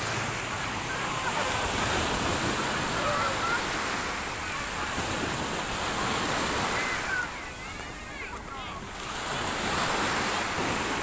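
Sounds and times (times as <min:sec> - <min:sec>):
sea surf washing on shore: 0:00.0 - 0:11.0.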